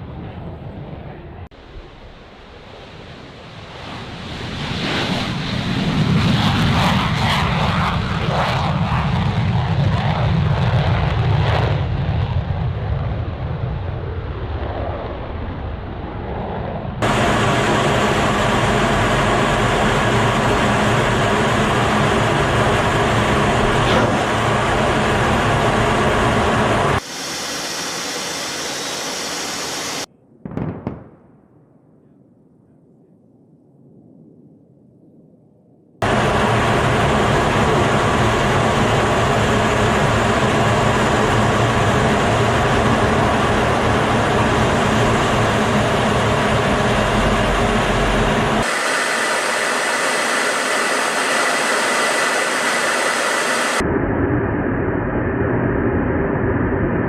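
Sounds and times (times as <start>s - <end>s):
jet engine rumble: 0.0s - 30.1s, 30.9s - 57.0s
jet engine whine: 0.0s - 30.2s, 31.0s - 57.0s.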